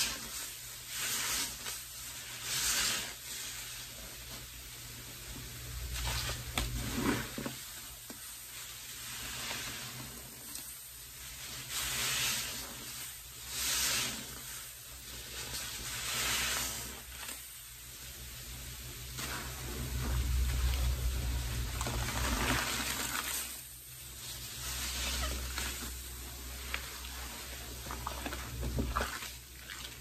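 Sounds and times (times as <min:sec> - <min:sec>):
sponge squeezed in sudsy water: 0:00.0 - 0:30.0.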